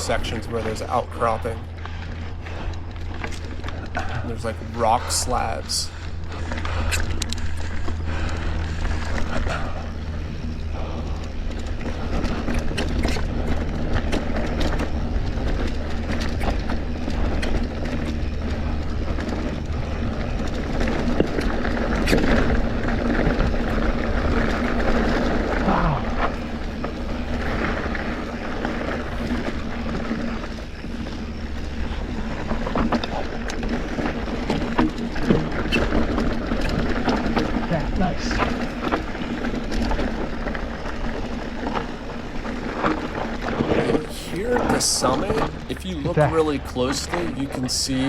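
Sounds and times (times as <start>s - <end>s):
bike rattling over rock: 0.0s - 48.0s.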